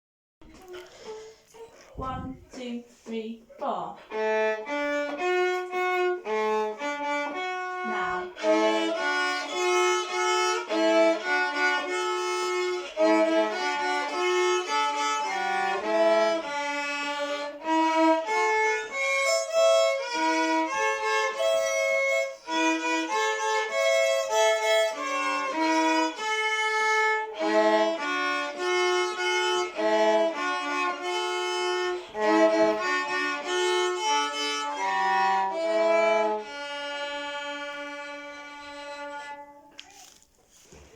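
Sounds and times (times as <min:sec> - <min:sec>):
violin melody: 0:04.0 - 0:40.1.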